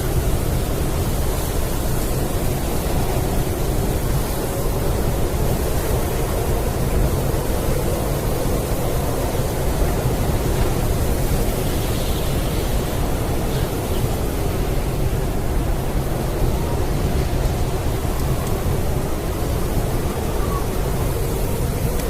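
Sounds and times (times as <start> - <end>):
blizzard wind rushing: 0.0 - 22.0.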